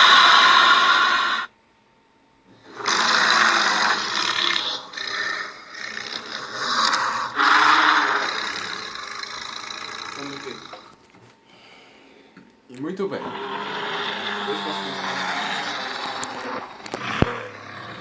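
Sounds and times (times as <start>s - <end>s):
dragon roar: 0.0s - 1.5s, 2.6s - 10.9s, 13.2s - 18.0s.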